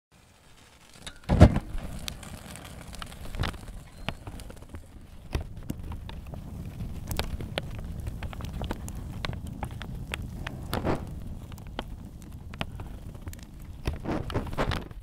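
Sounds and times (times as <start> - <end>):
low fire rumble: 0.1 - 15.0
paper burning crackles: 0.1 - 15.0
flame whoosh: 0.2 - 15.0.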